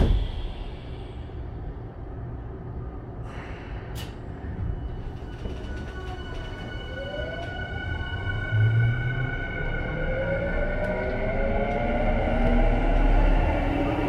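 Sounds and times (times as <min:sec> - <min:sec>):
rising whine of train motors: 0:00.0 - 0:14.0
train rumble inside car: 0:00.0 - 0:14.0.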